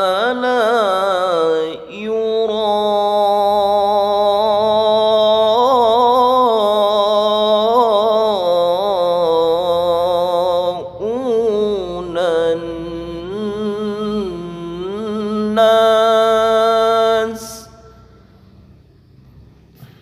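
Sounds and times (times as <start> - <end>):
man reciting in melodic style: 0.0 - 18.2.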